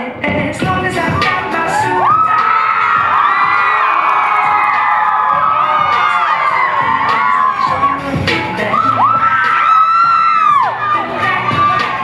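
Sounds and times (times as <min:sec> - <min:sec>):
dance music: 0:00.0 - 0:12.0
audience cheering and shouting: 0:00.8 - 0:12.0.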